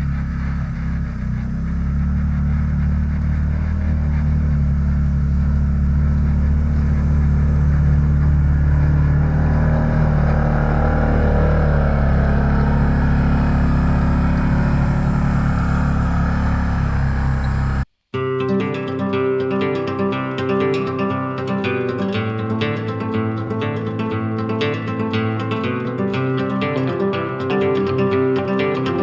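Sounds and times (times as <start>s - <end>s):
vehicle engine running: 0.0s - 17.9s, 18.7s - 29.0s.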